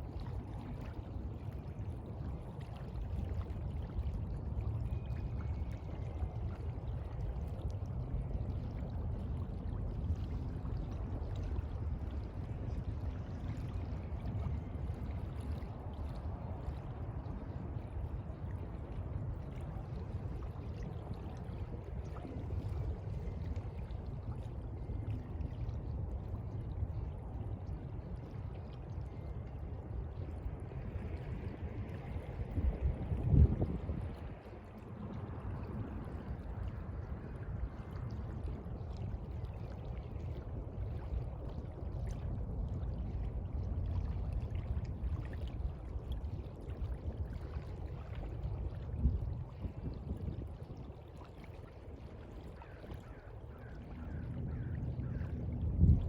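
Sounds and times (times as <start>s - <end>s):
sea water washing and sloshing: 0.0s - 56.0s.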